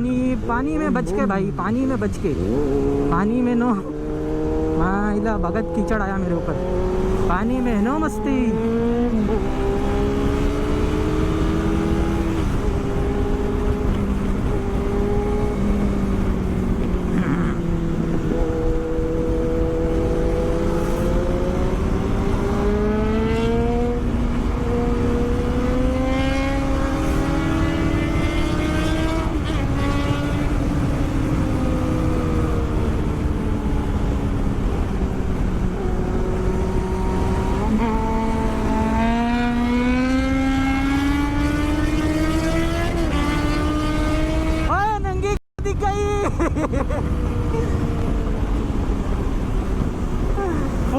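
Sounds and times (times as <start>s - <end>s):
motorcycle engine revving: 0.0s - 45.0s, 46.8s - 50.9s
wind and road noise: 0.0s - 50.9s.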